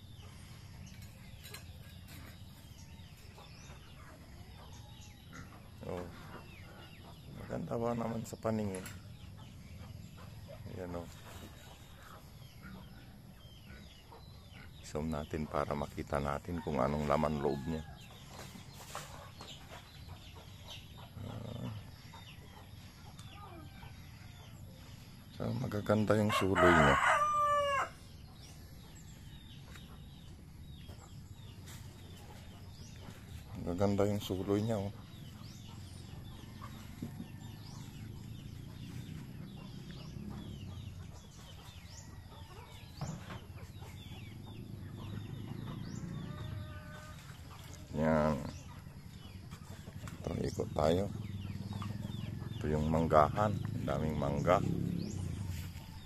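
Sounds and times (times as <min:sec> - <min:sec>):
chickens clucking: 0:00.0 - 0:56.0
small birds chirping: 0:00.0 - 0:56.0.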